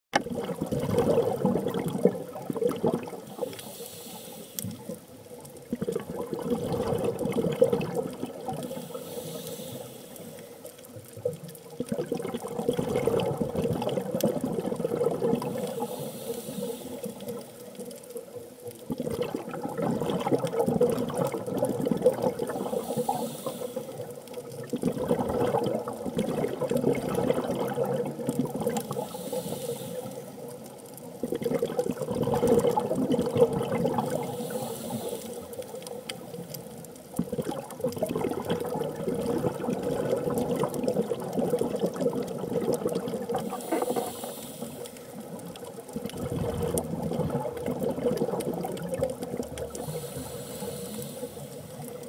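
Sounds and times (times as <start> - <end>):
underwater regulator exhaust bubbles: 0.1 - 52.0.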